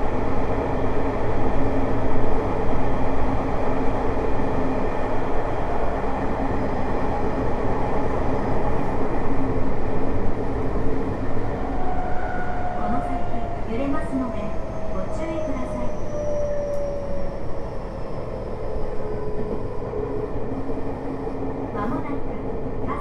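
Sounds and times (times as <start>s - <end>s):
steady train hum: 0.0s - 23.0s
wheels rumbling on rail: 0.0s - 23.0s.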